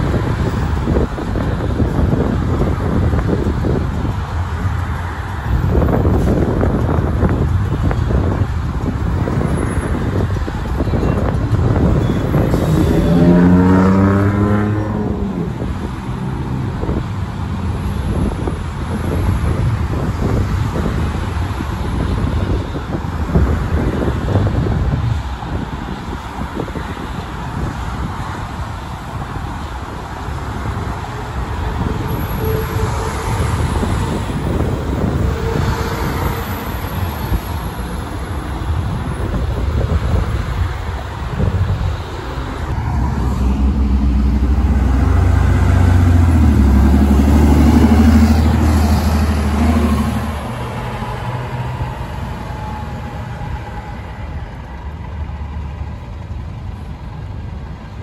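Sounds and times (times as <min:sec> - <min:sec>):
bus engine passing: 0:00.0 - 0:58.0
street traffic: 0:00.0 - 0:58.0.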